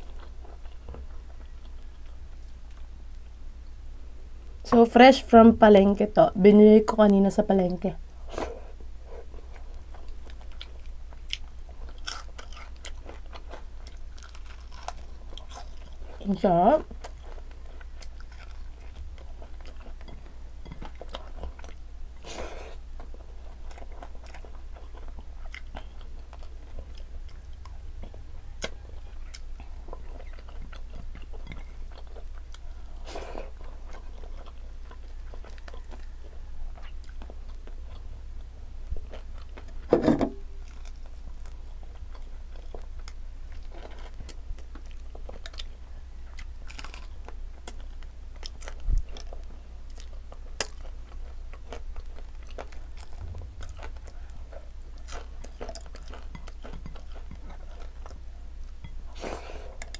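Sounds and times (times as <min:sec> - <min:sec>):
person chewing food: 0:00.0 - 0:03.4, 0:08.3 - 0:59.9.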